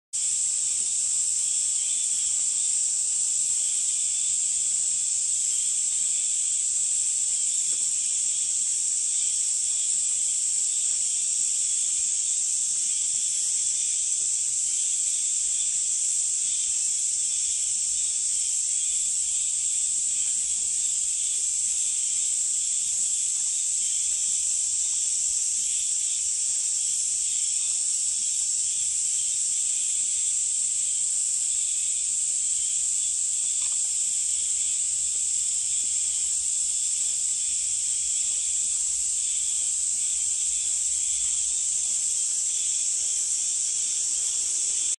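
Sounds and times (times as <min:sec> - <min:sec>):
high-pitched insect chorus: 0:00.2 - 0:45.0.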